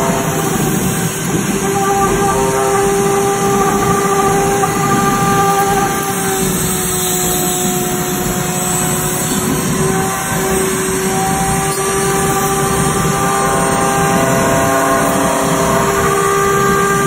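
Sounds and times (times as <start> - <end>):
constant rushing noise: 0.0 - 17.0
power tool motor whine: 0.0 - 17.0.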